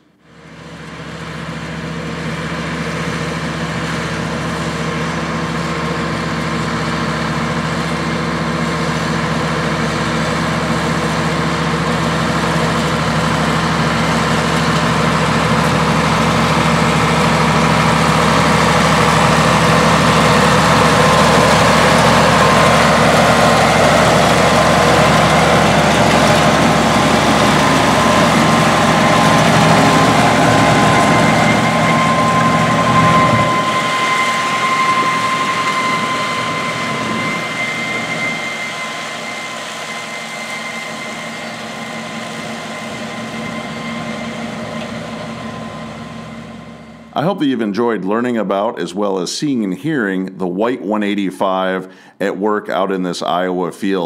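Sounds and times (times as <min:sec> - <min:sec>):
tractor diesel engine under load: 0:00.0 - 0:48.7.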